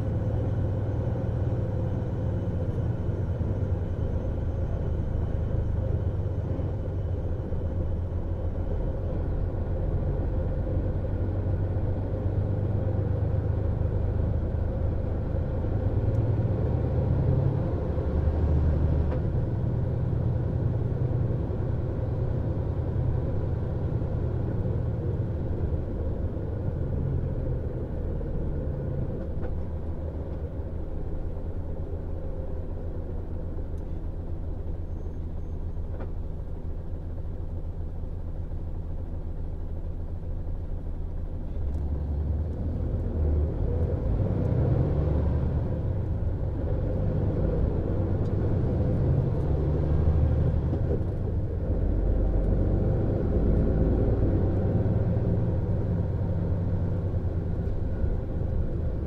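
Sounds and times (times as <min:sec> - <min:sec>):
diesel coach engine running: 0:00.0 - 0:59.0.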